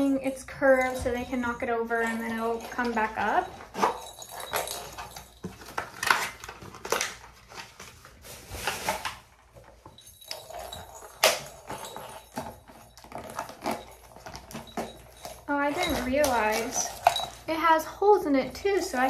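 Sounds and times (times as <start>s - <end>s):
cardboard rustling and scraping: 0.8s - 17.5s.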